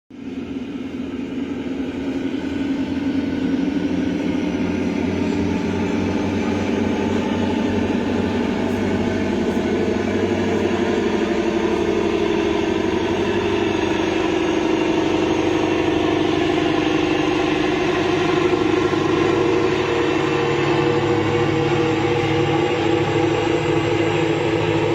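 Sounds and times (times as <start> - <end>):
ship engines droning: 0.2 - 24.9.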